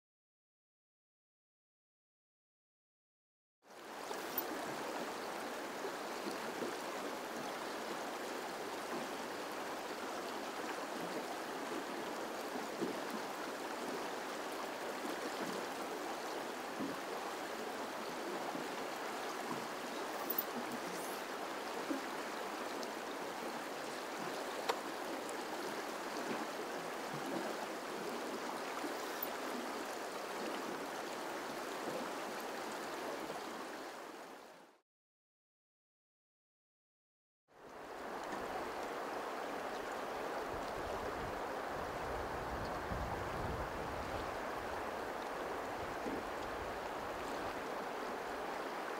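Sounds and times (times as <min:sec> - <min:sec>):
river water flowing over rocks: 0:03.7 - 0:34.7, 0:37.6 - 0:48.9.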